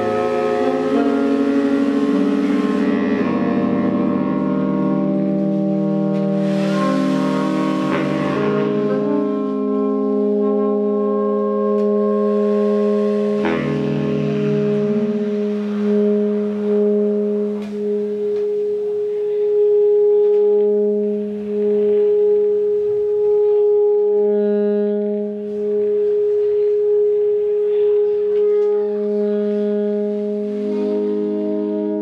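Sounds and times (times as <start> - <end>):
faint higher tones: 0.0 - 32.0
lower droning tone: 0.0 - 32.0
steady droning tone: 0.0 - 32.0.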